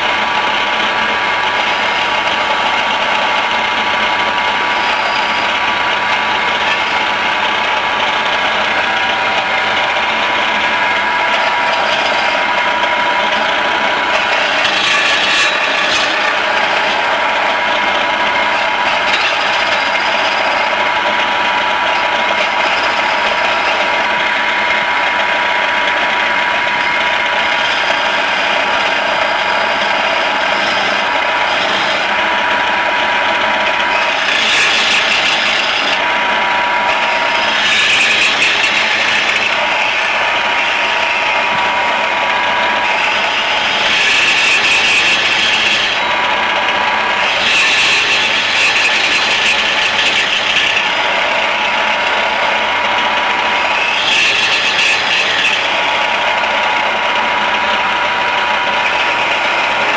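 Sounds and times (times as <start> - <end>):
chisel scraping spinning wood: 0.0 - 59.9
lathe motor whining: 0.0 - 59.9.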